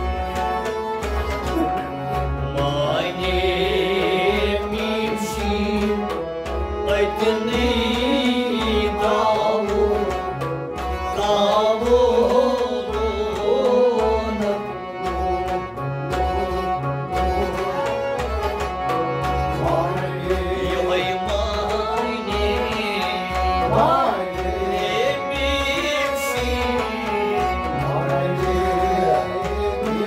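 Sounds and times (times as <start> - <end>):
drum beating even rhythm: 0.0 - 30.0
steady held drone: 0.1 - 30.0
person singing folk song: 1.5 - 10.4, 11.0 - 15.0, 17.3 - 30.0.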